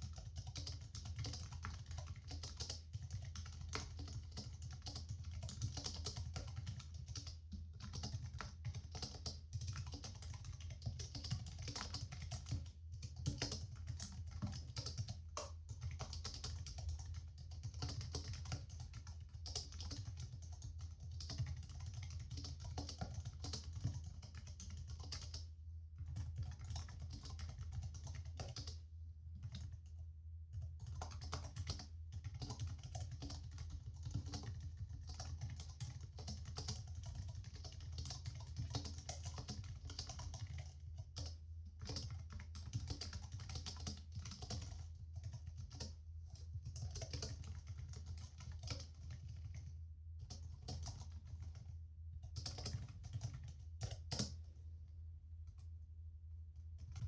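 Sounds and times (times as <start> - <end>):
fast typing on keyboard: 0.0 - 28.8, 29.4 - 29.9, 30.5 - 54.6, 56.8 - 57.0.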